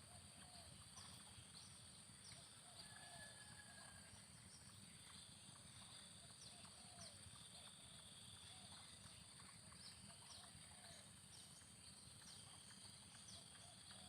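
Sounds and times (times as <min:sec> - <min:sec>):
steady high-pitched whine: 0:00.0 - 0:14.0.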